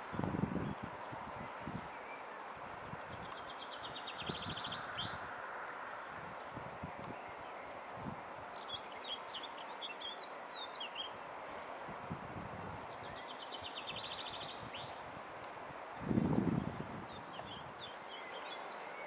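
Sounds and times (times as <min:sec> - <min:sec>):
outdoor background hiss: 0:00.0 - 0:19.0
songbirds chirping: 0:00.0 - 0:19.0.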